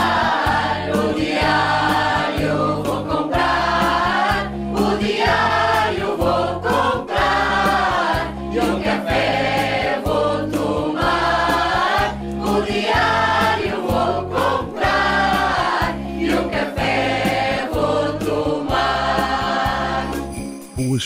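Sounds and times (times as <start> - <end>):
choir singing: 0.0 - 20.4.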